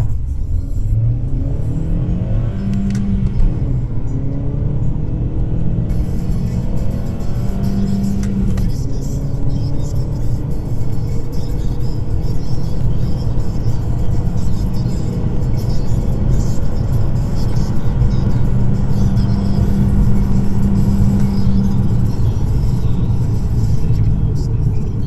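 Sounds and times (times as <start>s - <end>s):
car engine accelerating: 0.0s - 25.0s
road noise: 0.0s - 25.0s.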